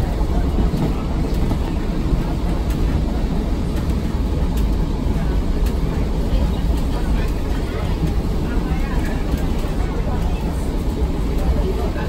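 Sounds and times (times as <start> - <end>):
railway carriage wheels rumbling: 0.0 - 12.0.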